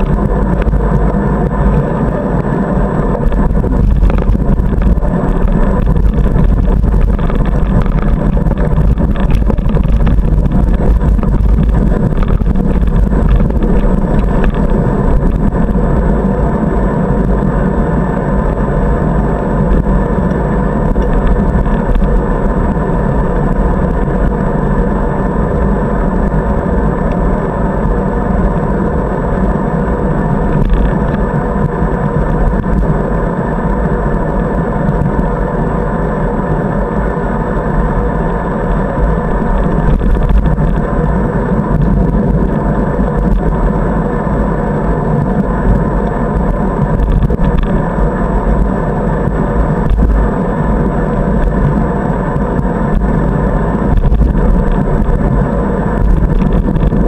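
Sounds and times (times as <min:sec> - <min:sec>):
bicycle rolling on paved path: 0:00.0 - 0:57.0
wind rumble on microphone: 0:00.0 - 0:57.0.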